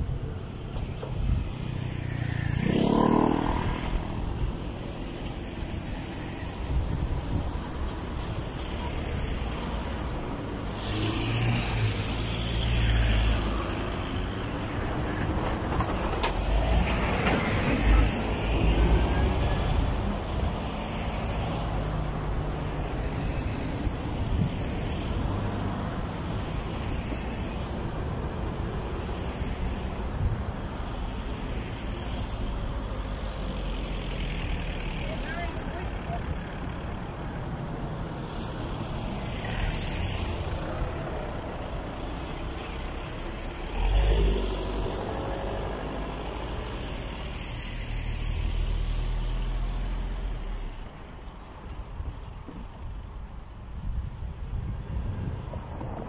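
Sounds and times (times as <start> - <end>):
cars driving by: 0.0 - 56.0
steady traffic rumble: 0.0 - 56.0.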